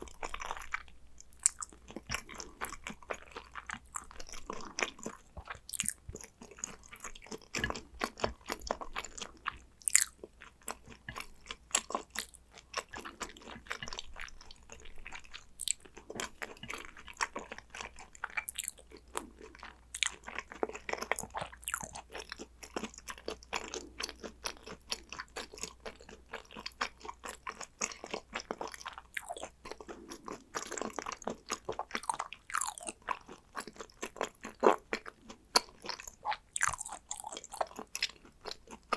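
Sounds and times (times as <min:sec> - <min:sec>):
food crunching: 0:00.0 - 0:38.9
person chewing: 0:00.0 - 0:38.9.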